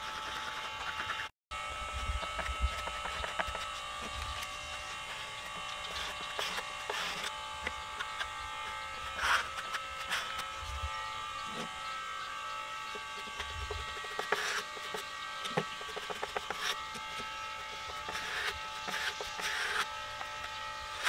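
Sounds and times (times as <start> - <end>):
power tool whining: 0.0 - 21.0
grinding against wood: 2.1 - 21.0.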